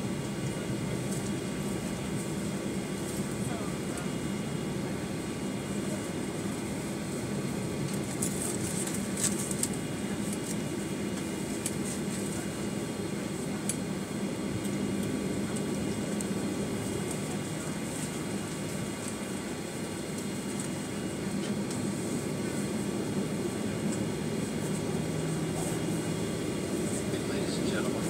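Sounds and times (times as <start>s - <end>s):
airplane cabin engine noise: 0.0s - 28.0s.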